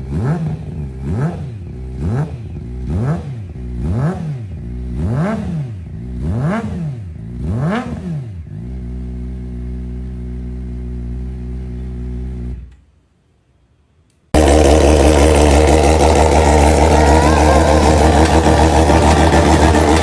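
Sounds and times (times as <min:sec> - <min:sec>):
motorbike engine revving and idling: 0:00.0 - 0:12.8, 0:14.4 - 0:20.0.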